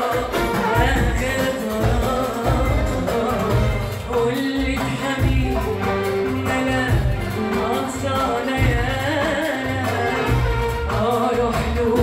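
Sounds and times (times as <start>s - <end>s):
violin: 0.0s - 12.0s
woman singing into a microphone: 0.0s - 12.0s.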